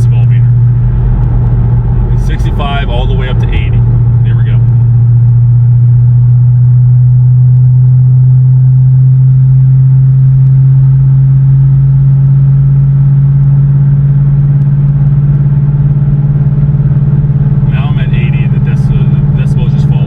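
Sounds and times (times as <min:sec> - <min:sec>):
car exhaust droning at highway speed: 0:00.0 - 0:20.0.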